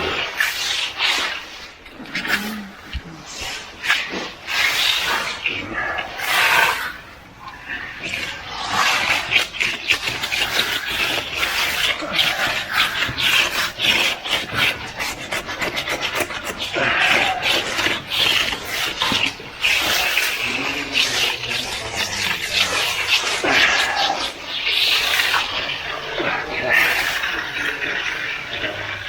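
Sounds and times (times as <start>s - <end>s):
hand trowel scraping concrete: 0.0s - 7.0s, 7.6s - 29.0s.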